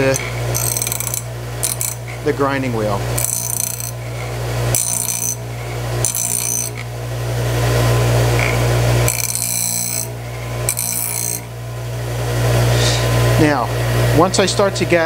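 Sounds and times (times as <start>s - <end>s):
bench grinder running: 0.0s - 15.0s.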